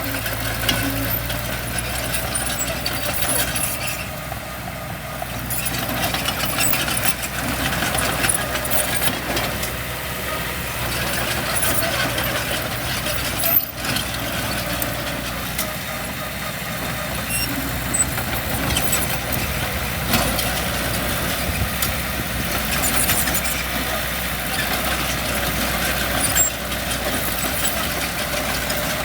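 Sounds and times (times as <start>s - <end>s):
diesel engine drone: 0.0s - 29.0s
machinery clanks: 0.1s - 4.2s, 5.3s - 9.8s, 10.8s - 29.0s.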